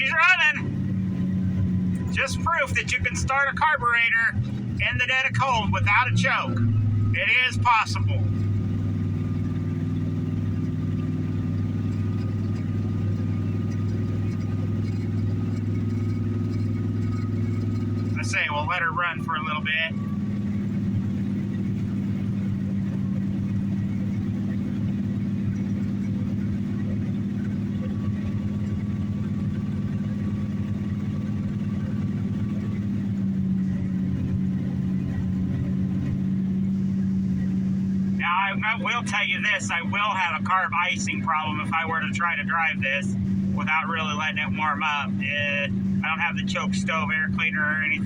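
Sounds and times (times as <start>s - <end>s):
pickup truck engine idling: 0.0s - 48.0s.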